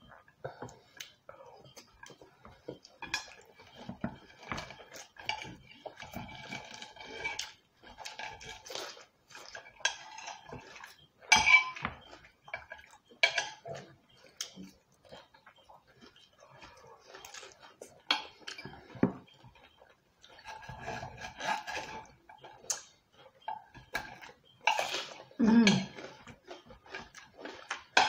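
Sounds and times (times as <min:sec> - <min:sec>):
cutlery scraping on plates: 0:01.8 - 0:28.0.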